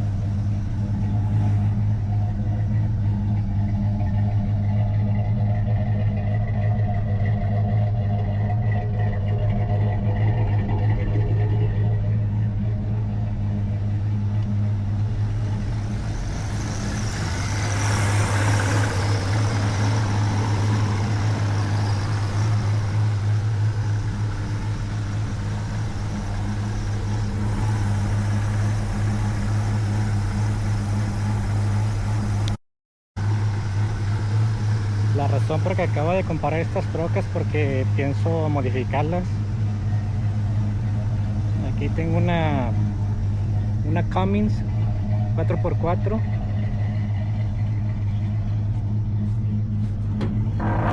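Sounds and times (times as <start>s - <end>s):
truck engine idling: 0.0s - 32.6s, 33.2s - 50.9s.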